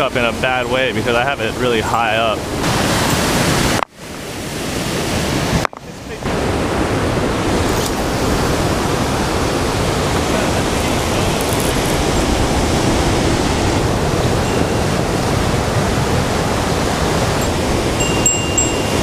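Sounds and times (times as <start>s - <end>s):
ocean surf breaking on cobbles: 0.0s - 19.0s.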